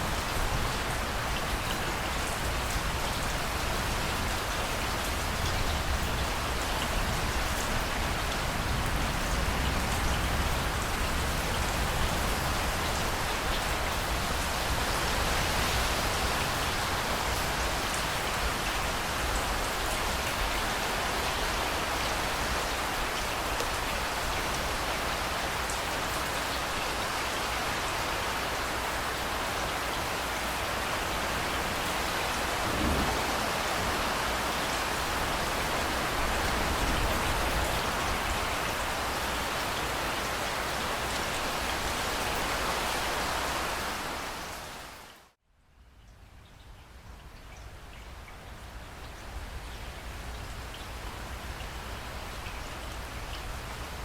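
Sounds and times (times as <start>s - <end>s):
heavy rain splashing: 0.0s - 45.4s.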